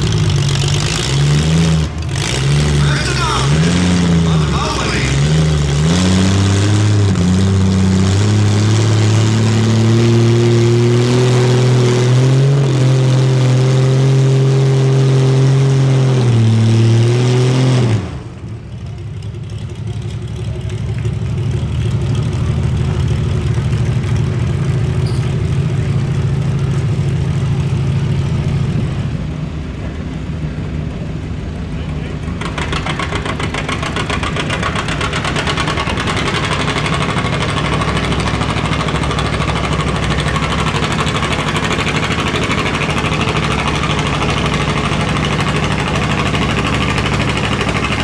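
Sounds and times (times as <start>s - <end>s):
low rough engine: 0.0s - 48.0s
pulling vehicle engine at high revs: 0.0s - 48.0s.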